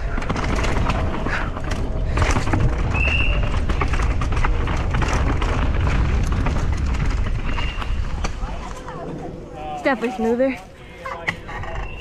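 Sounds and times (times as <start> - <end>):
wind rumble on microphone: 0.0 - 10.2
bike rattling over bumps: 0.0 - 10.6, 11.2 - 12.0
tyres on dirt and rocks: 0.0 - 12.0.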